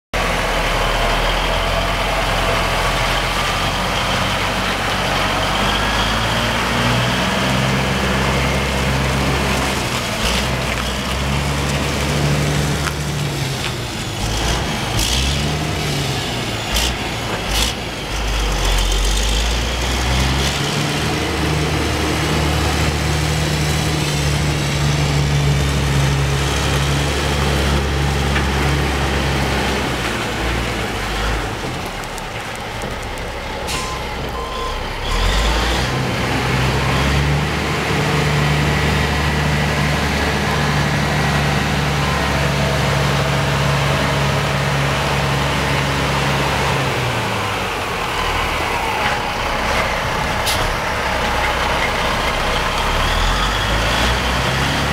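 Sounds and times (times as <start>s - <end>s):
truck diesel engine pulling away: 0.2s - 54.9s.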